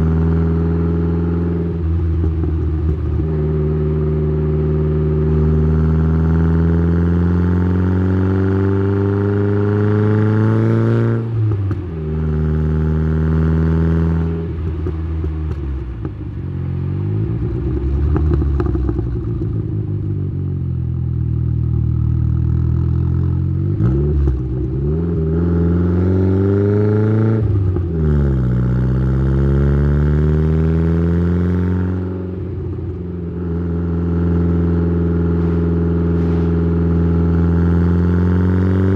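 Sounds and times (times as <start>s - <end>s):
car exhaust under hard acceleration: 0.0s - 38.9s.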